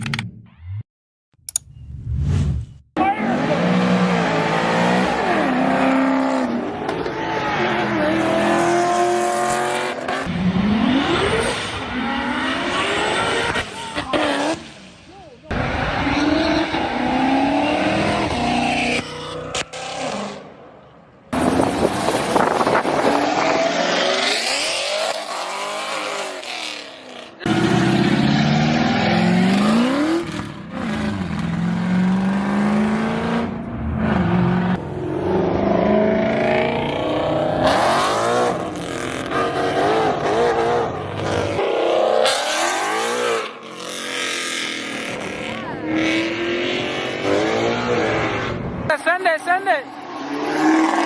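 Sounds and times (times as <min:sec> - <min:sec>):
car engines revving and accelerating: 0:03.0 - 0:51.0.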